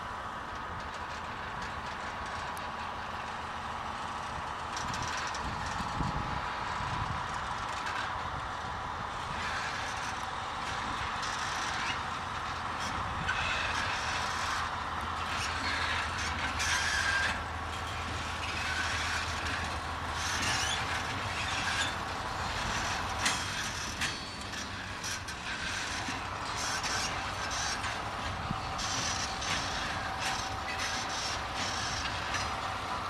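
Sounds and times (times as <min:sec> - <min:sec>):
diesel locomotive drone: 0:00.0 - 0:33.0
train wheels creaking and squealing: 0:00.5 - 0:33.0.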